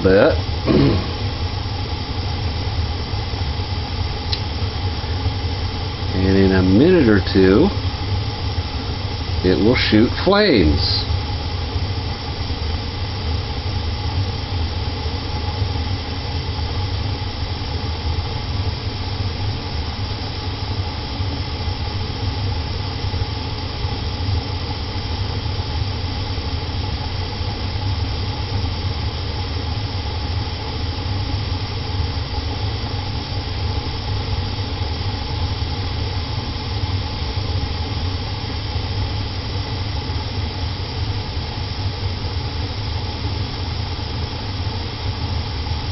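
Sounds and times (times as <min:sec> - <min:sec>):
furnace burners rumbling and hissing: 0:00.0 - 0:45.9.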